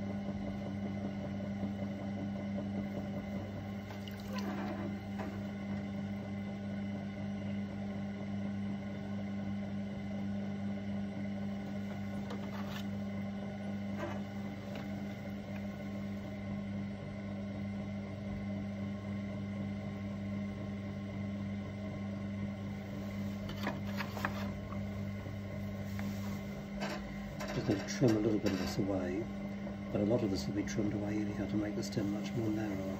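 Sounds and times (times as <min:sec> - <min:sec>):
potter's wheel motor hum: 0:00.0 - 0:32.9.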